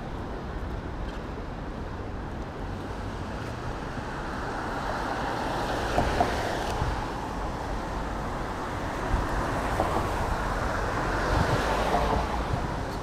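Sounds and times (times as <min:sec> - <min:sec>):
wind rumbling on microphone: 0:00.0 - 0:13.0
cars passing: 0:01.6 - 0:13.0.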